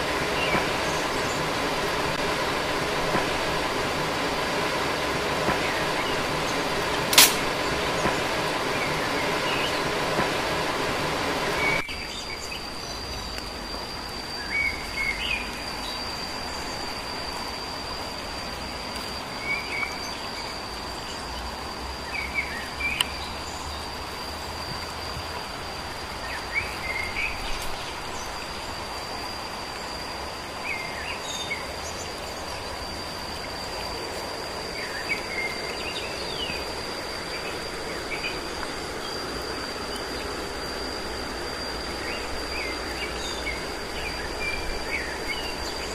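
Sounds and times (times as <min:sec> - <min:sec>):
insect drone: 0:00.0 - 0:45.9.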